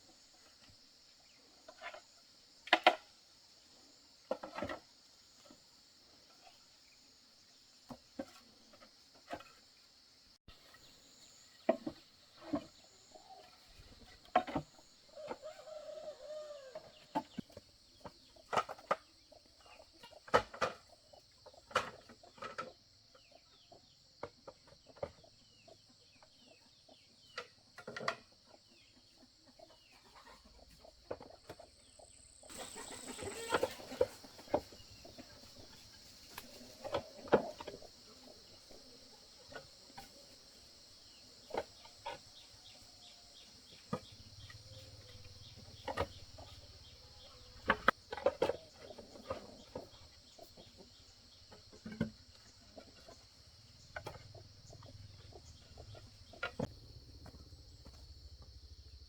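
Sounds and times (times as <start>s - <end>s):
chickens clucking: 10.6s - 58.6s.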